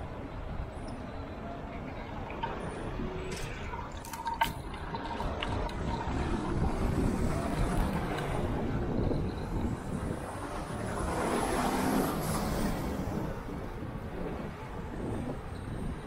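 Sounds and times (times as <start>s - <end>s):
wind and road rumble: 0.0s - 16.0s.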